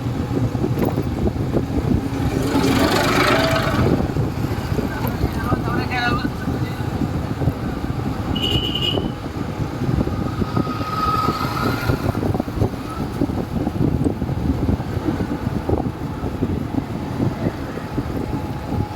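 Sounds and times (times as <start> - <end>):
motorcycle engine rumble: 0.0 - 18.9
wind noise on microphone: 0.0 - 18.9.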